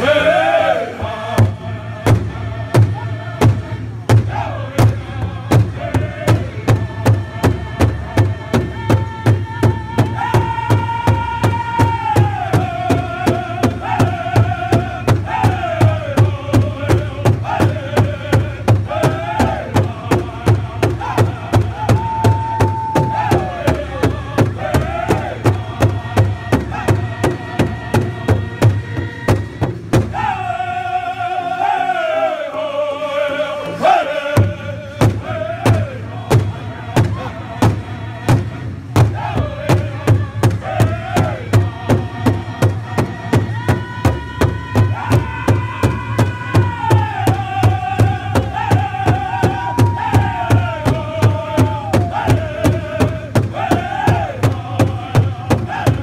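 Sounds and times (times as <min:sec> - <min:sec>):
men singing in high voices: 0:00.0 - 0:56.0
large drum fast beat: 0:01.0 - 0:30.5, 0:34.3 - 0:56.0.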